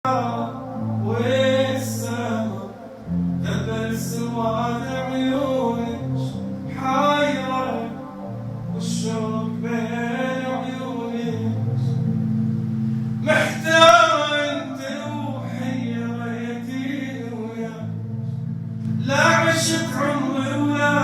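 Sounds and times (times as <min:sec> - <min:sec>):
man singing: 0:00.0 - 0:12.0, 0:13.2 - 0:17.9, 0:19.0 - 0:21.0
sustained low accompaniment: 0:00.0 - 0:21.0.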